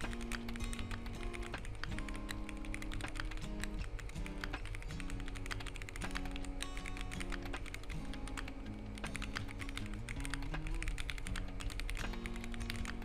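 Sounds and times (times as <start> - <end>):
background music: 0.0 - 13.0
mechanical keyboard typing: 0.0 - 13.0.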